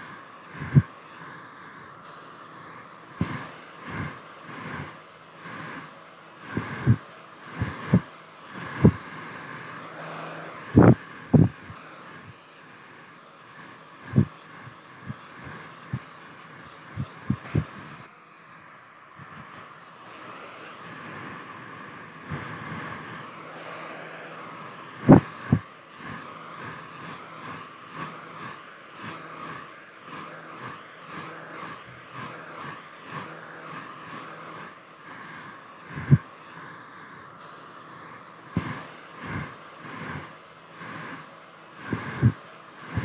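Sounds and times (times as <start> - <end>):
hair dryer running: 0.0 - 43.0.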